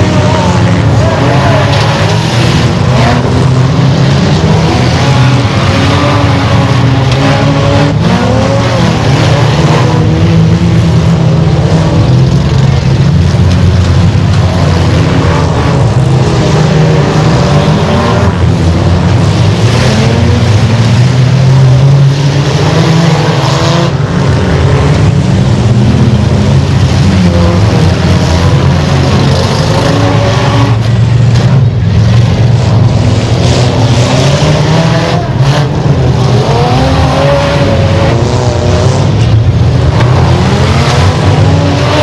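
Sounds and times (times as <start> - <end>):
race car engines accelerating: 0.0 - 42.0.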